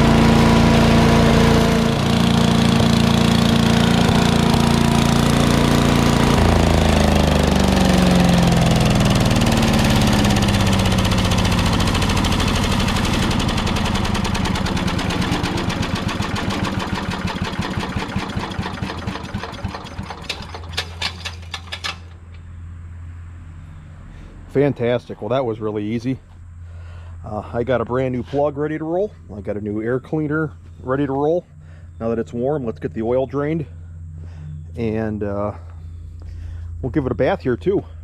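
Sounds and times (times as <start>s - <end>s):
chipper engine running: 0.0s - 22.5s, 25.5s - 38.0s
engine winding down: 0.0s - 22.5s, 23.3s - 38.0s.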